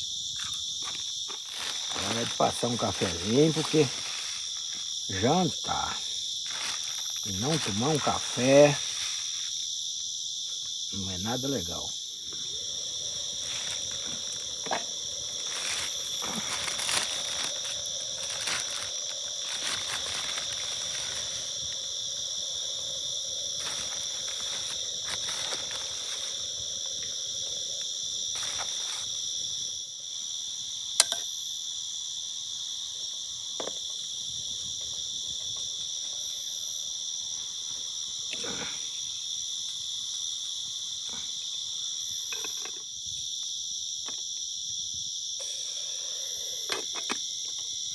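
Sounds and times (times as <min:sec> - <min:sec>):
night insects buzzing: 0:00.0 - 0:47.9.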